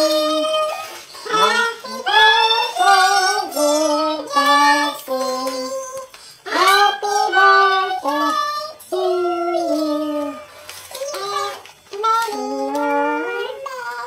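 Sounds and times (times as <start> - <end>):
young child singing: 0.0 - 14.0.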